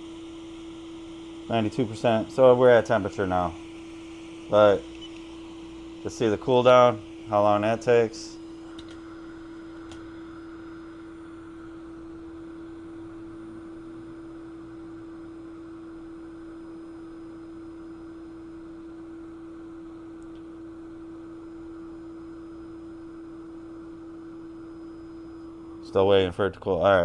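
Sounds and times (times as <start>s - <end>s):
blower humming: 0.0s - 27.0s.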